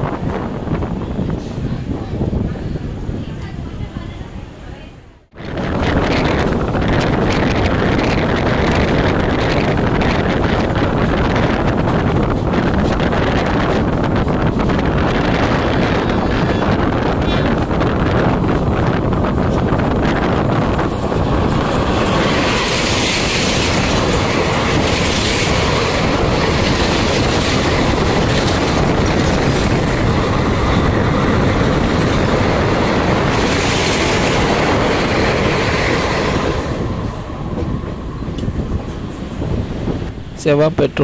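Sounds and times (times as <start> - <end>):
train wheels rumbling on rails: 0.0 - 40.8.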